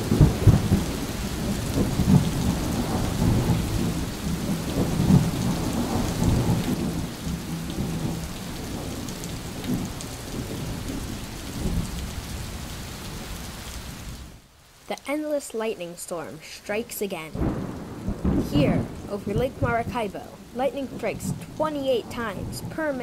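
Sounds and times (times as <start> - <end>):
thunder rumbling: 0.0 - 13.5, 16.0 - 23.0
steady rain: 0.0 - 23.0.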